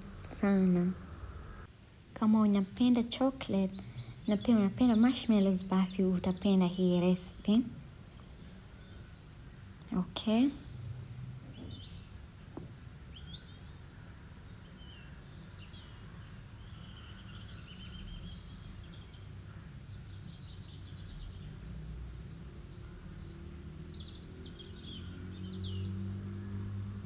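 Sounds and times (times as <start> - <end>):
low steady hum: 0.0 - 23.7
small birds chirping: 0.0 - 27.0.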